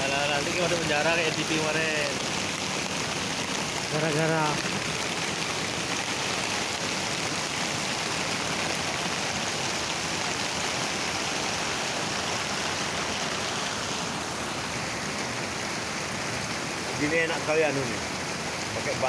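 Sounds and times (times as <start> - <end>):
waterfall rushing water: 0.0 - 19.0.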